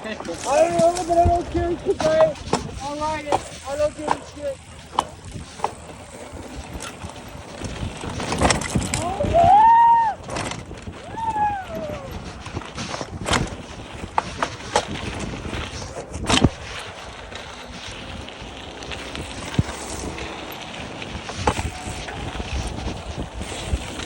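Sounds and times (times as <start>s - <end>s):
bike knocks and rattles: 0.0s - 24.0s
rush of tyres and wind: 0.0s - 24.0s.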